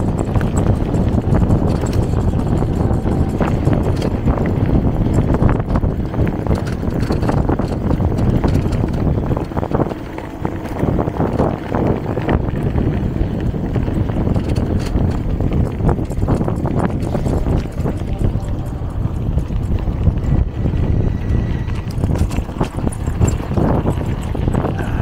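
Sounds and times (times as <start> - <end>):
bicycle knocks and rattles: 0.0 - 25.0
wind buffeting microphone: 0.0 - 25.0.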